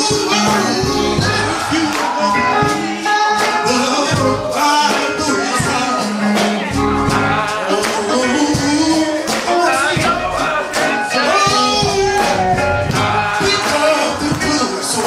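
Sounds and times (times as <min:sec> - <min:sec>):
band playing: 0:00.0 - 0:15.0
people singing gospel: 0:00.0 - 0:15.0.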